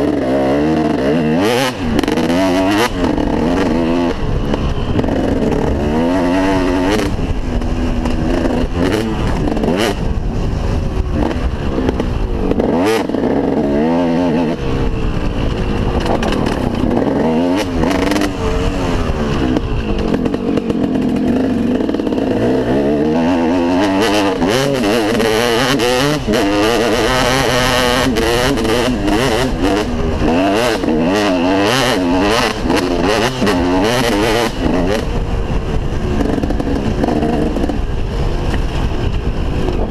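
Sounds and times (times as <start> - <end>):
motocross engine revving: 0.0 - 38.7.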